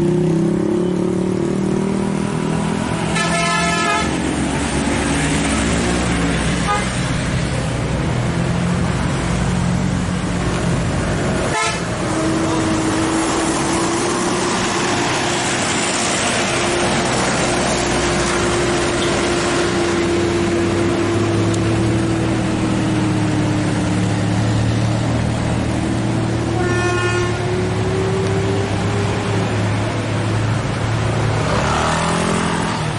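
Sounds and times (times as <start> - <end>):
truck engines straining uphill: 0.0 - 32.9.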